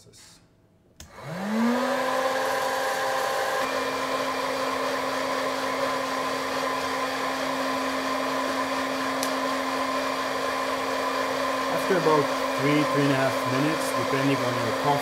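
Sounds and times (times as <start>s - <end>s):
popcorn popper fan whirring: 1.0s - 15.0s.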